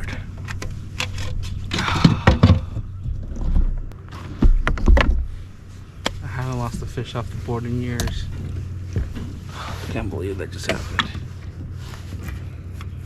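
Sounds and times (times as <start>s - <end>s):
gear knocking and scraping: 0.0s - 13.0s
low steady hum: 0.0s - 13.0s.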